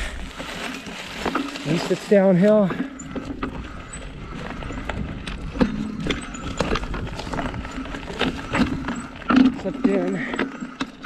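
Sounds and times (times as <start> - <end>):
bike rattling and clattering: 0.0 - 11.0
tyres rolling on dirt: 0.0 - 11.0.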